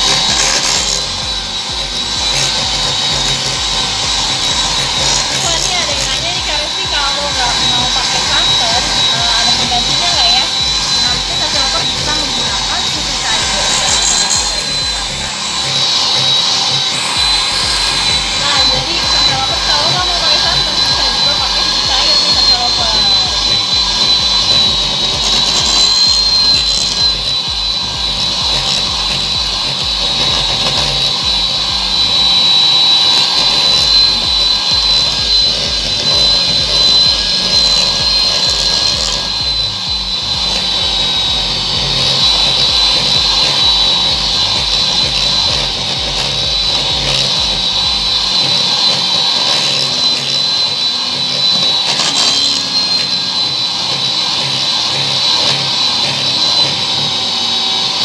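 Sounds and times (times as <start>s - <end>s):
electric hand mixer whining: 0.0s - 58.0s.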